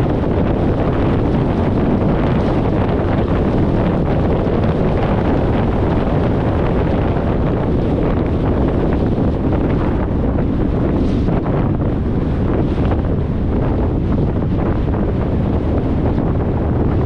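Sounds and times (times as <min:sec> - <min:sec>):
car road and tyre noise: 0:00.0 - 0:17.0
wind rushing over microphone: 0:00.0 - 0:17.0.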